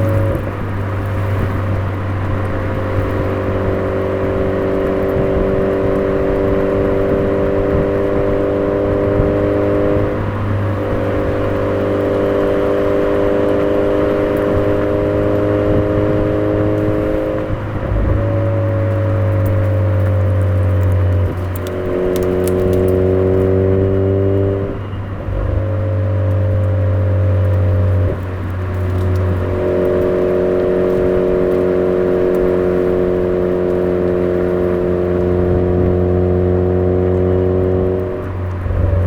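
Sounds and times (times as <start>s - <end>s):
car exhaust while driving: 0.0s - 39.0s.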